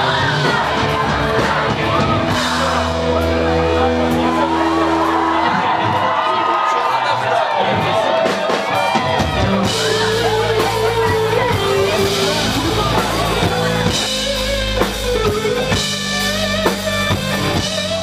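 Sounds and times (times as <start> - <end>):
rock music: 0.0 - 18.0.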